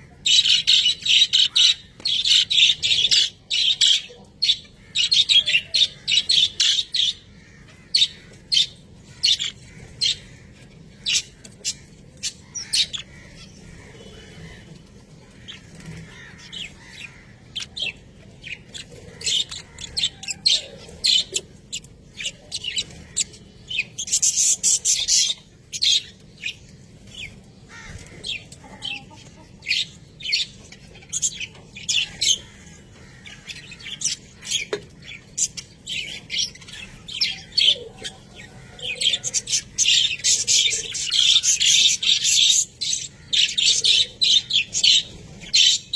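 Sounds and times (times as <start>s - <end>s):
budgerigars chattering: 0.2s - 14.7s, 15.4s - 45.9s.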